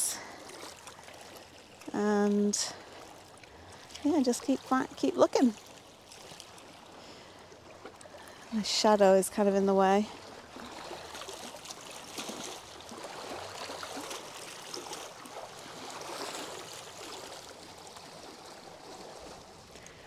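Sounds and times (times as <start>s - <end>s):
river waves lapping against rocks: 0.0s - 20.0s.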